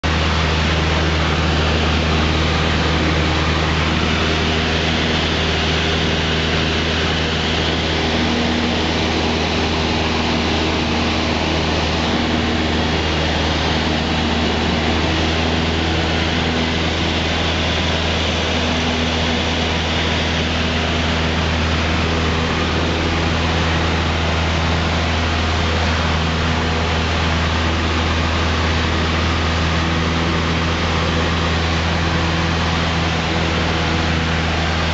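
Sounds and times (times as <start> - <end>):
propeller plane engine droning: 0.0 - 34.9.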